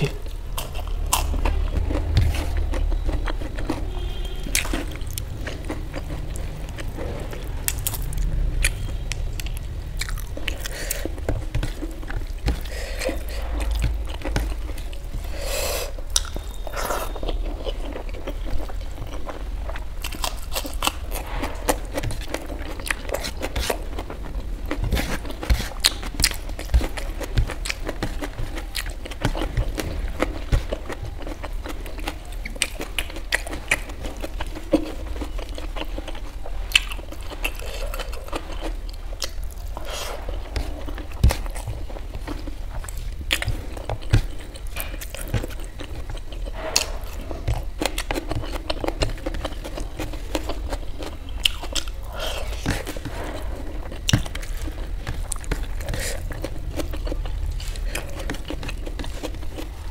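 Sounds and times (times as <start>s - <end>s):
chewing with wet clicks: 0.0s - 15.3s, 15.9s - 59.9s.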